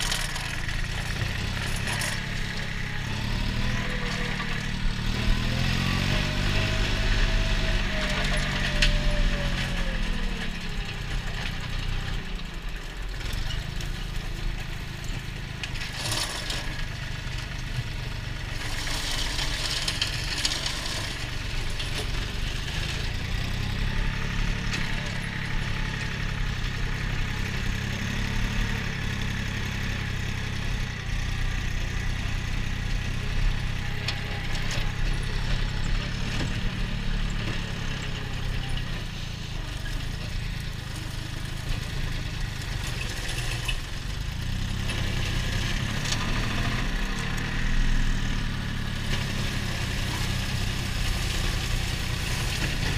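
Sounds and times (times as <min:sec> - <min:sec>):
flail mower cutting grass: 0:00.0 - 0:52.9
tractor engine running: 0:00.0 - 0:52.9.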